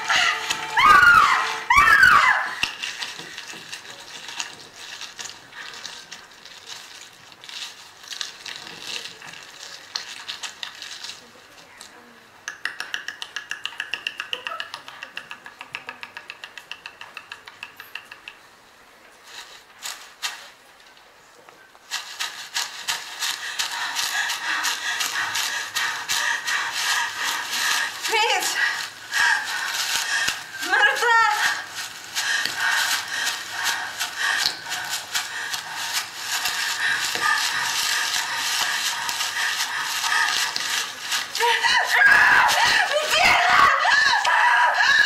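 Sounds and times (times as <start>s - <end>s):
crackling and rustling: 0.0s - 12.2s, 14.6s - 45.0s.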